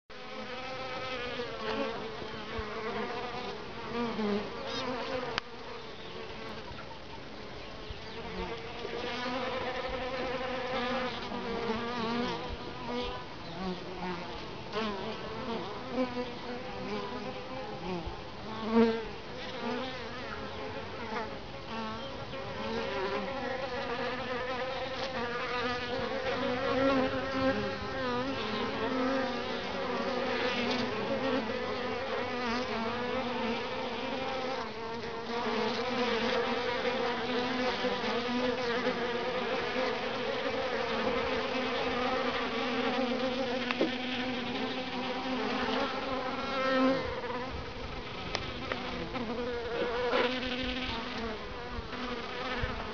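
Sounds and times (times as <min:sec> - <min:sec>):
bees buzzing: 0:00.1 - 0:06.8, 0:08.0 - 0:52.9.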